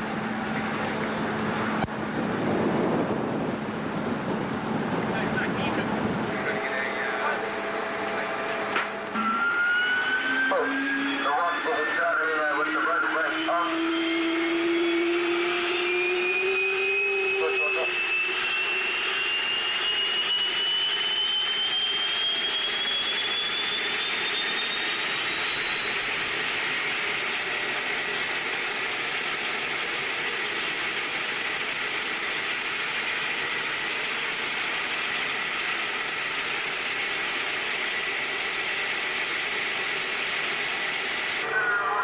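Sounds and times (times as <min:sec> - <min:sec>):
turbine engine whining: 0:00.0 - 0:42.0.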